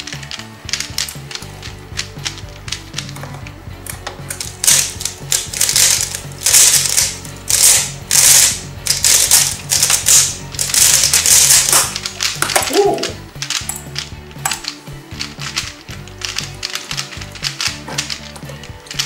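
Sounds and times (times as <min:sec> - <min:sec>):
plastic puzzle cube clicking: 0:00.0 - 0:19.0.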